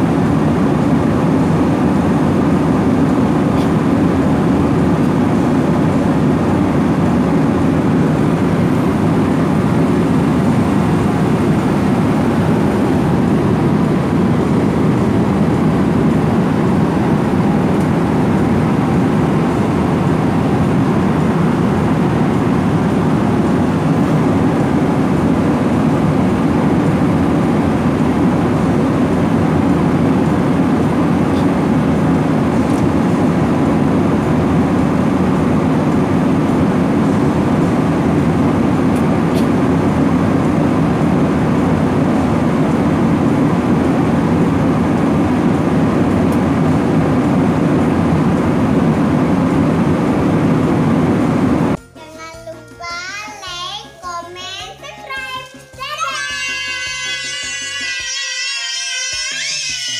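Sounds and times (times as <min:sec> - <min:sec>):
airflow over fuselage: 0:00.0 - 0:51.8
airliner cabin engine hum: 0:00.0 - 0:52.2, 0:55.5 - 0:59.9.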